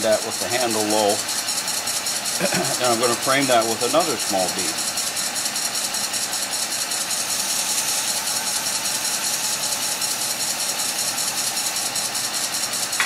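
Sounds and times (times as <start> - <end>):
hiss of tool cutting wood: 0.0 - 13.0
wood lathe running: 0.0 - 13.0.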